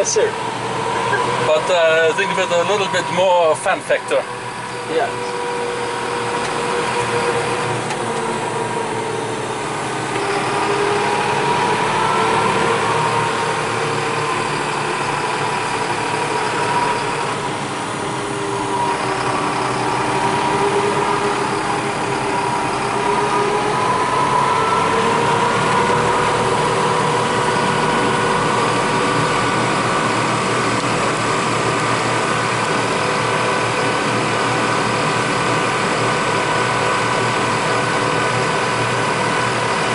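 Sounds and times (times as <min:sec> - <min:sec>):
tractor engine drone with whine: 0:00.0 - 0:39.9.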